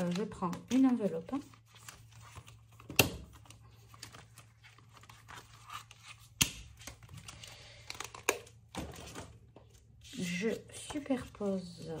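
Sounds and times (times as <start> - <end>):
plastic pages rustling: 0.0 - 12.0.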